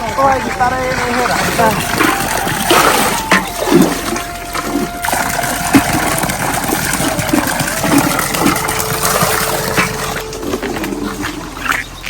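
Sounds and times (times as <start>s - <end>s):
water rushing in heavy rain: 0.0s - 12.0s.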